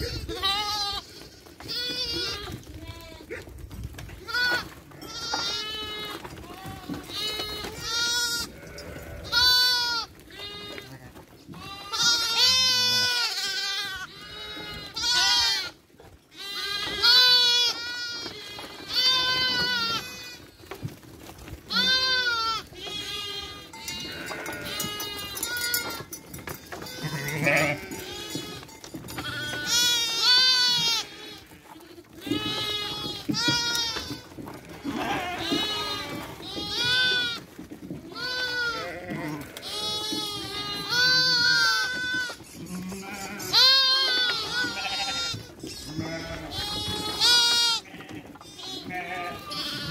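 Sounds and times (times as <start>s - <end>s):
sheep and lambs bleating: 0.0s - 3.5s, 4.2s - 20.6s, 21.7s - 37.5s, 38.1s - 49.9s.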